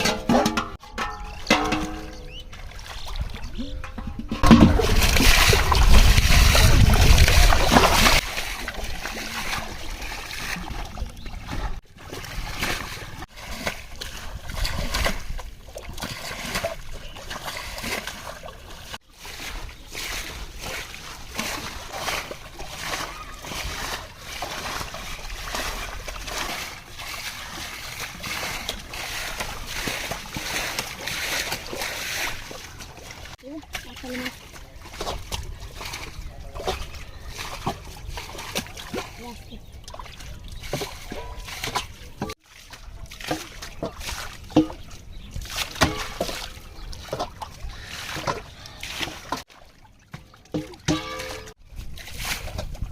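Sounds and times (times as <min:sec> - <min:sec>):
water splashing and sloshing: 0:00.0 - 0:52.9.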